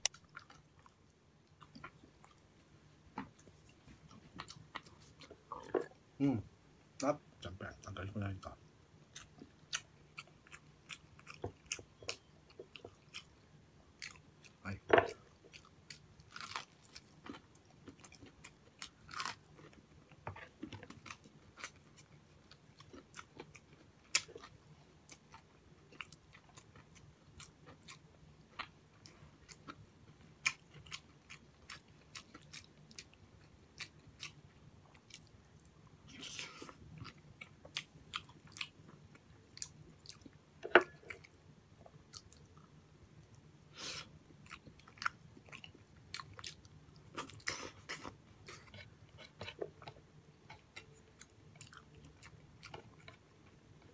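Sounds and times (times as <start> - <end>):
person chewing crunchy food: 0.0 - 2.4, 9.1 - 13.4, 14.0 - 35.3, 36.2 - 53.9.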